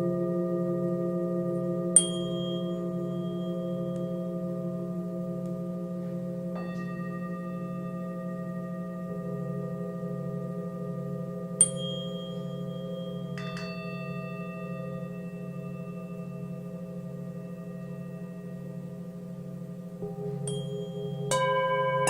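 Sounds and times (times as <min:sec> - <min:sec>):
singing bowls ringing: 0:00.0 - 0:22.0
tuning fork ping: 0:00.0 - 0:22.0.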